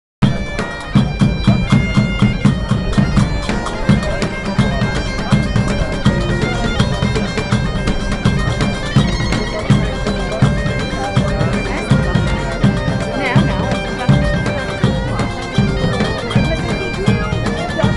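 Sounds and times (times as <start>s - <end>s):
bagpipes playing a melody: 0.2s - 17.9s
drums beating fast rhythm: 0.2s - 17.9s.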